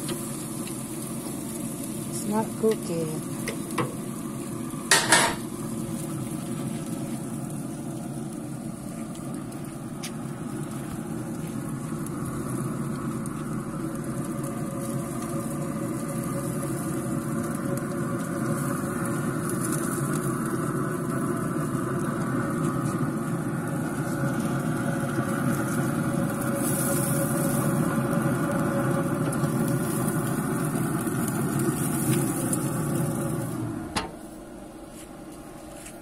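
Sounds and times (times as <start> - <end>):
steaks sizzling on a grill: 0.0 - 34.4.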